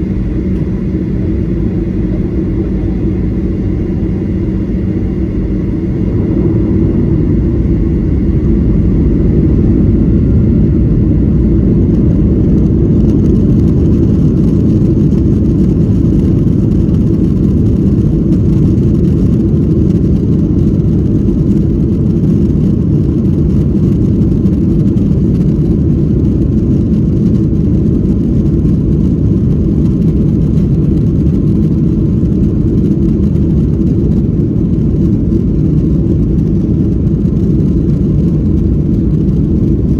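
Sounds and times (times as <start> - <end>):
heavy low cabin rumble: 0.0 - 39.9
jet engines at high thrust: 0.0 - 39.9.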